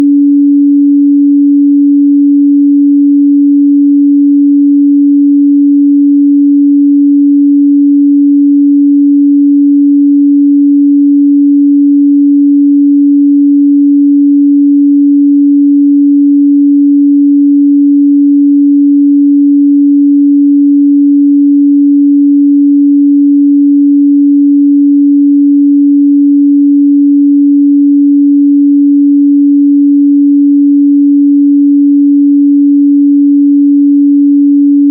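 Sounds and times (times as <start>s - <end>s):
sine wave test tone: 0.0s - 34.9s.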